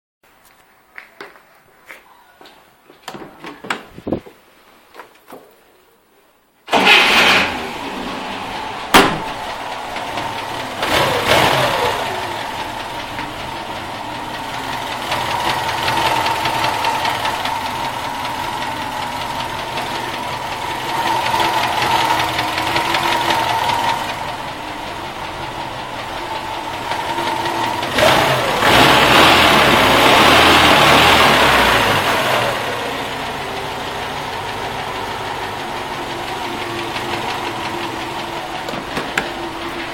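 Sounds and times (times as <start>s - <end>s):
car engine knocking and revving: 7.2s - 39.9s.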